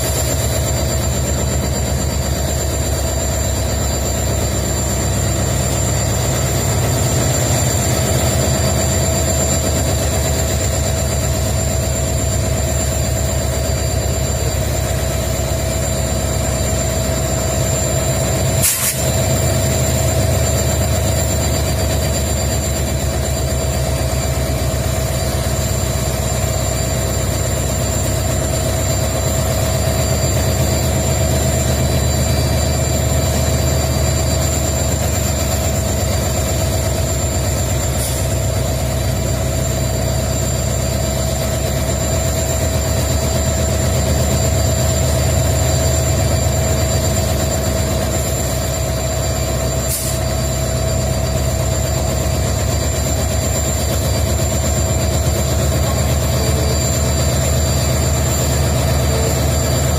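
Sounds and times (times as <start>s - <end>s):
locomotive engine idling: 0.0s - 59.9s.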